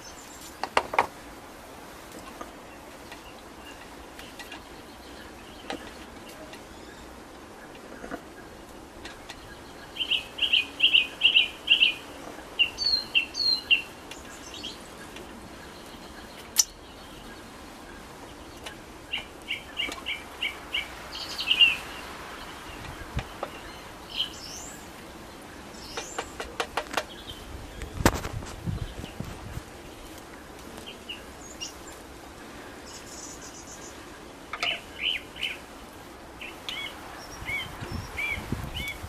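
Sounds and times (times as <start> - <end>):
songbird chirping: 2.1 - 39.0.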